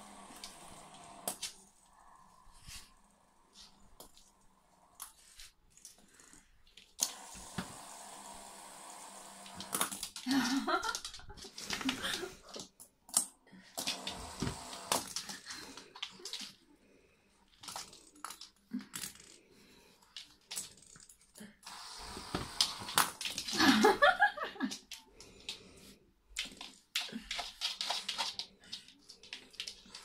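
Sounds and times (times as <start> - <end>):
plastic and claws clicking on floor: 0.0 - 8.0, 9.1 - 30.0.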